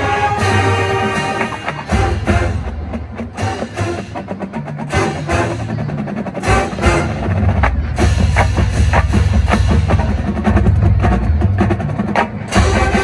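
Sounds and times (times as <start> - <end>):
drumline beating: 0.0 - 13.0
marching band playing: 0.0 - 13.0.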